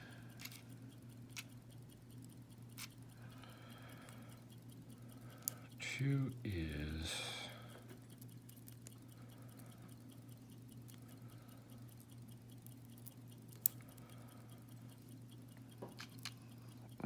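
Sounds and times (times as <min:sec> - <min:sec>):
metal tweezers clicking and scratching: 0:00.0 - 0:06.4, 0:07.6 - 0:17.0
low steady hum: 0:00.0 - 0:17.0.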